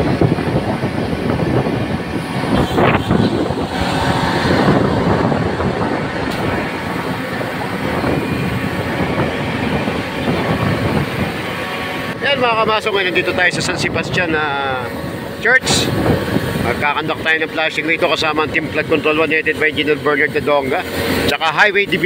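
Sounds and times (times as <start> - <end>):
high-pressure water jet spraying: 0.0 - 12.2, 12.8 - 22.0
truck engine and pump running: 0.0 - 22.0.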